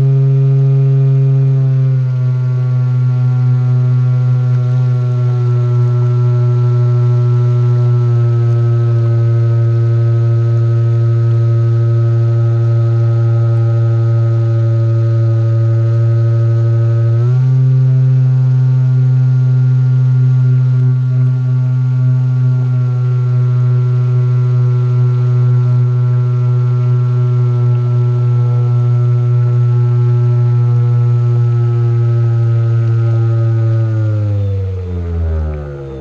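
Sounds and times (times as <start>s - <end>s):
airboat motor and propeller droning: 0.0s - 36.0s.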